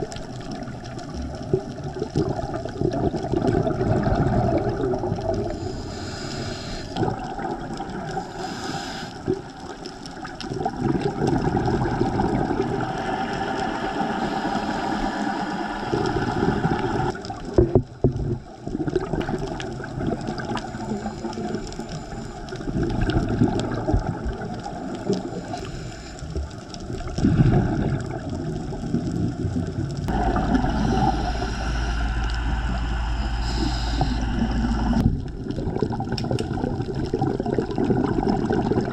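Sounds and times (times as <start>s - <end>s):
underwater air bubbles gurgling: 0.0s - 38.9s.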